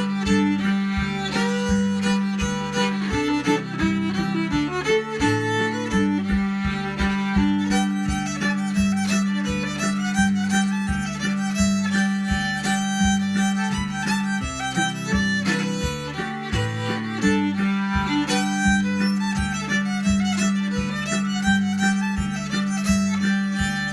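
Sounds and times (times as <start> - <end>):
lively instrumental tune: 0.0 - 23.9.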